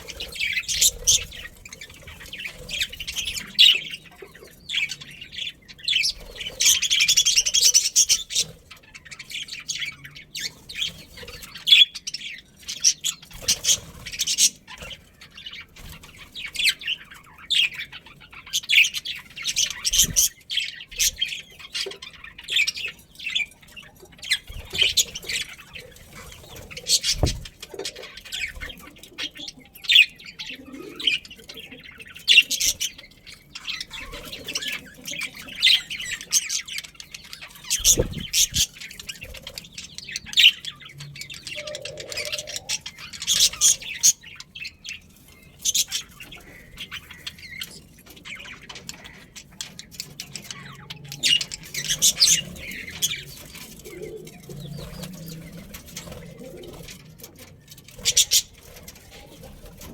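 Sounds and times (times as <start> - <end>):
budgerigars chirping and squawking: 0.0 - 59.9.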